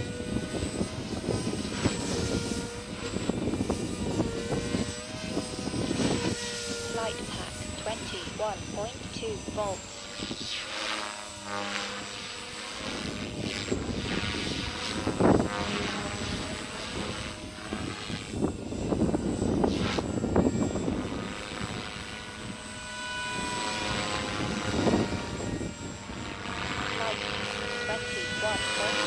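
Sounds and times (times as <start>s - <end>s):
electric motor whine: 0.0s - 29.0s
rc helicopter rotor whooshing: 0.0s - 29.0s.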